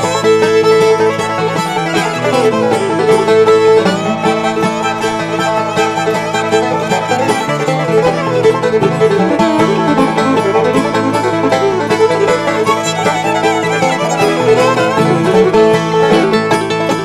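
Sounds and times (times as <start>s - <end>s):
bluegrass music with fiddle and banjo: 0.0s - 17.0s.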